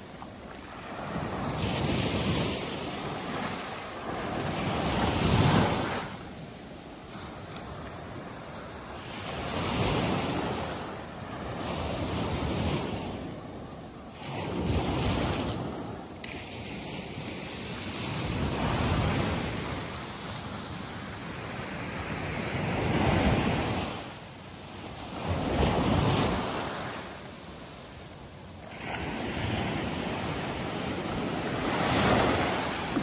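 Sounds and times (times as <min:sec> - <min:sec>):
small waves on sandy beach: 0:00.0 - 0:33.0.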